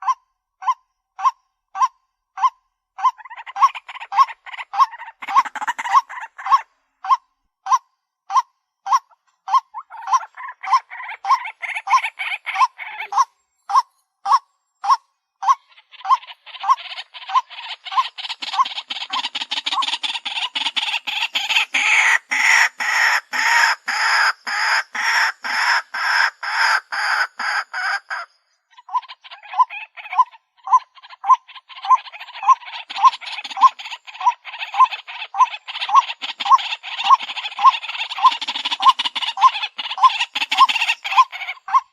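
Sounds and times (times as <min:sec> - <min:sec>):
raspy bird chattering: 0:01.2 - 0:41.9
waterhen calling: 0:02.4 - 0:41.9.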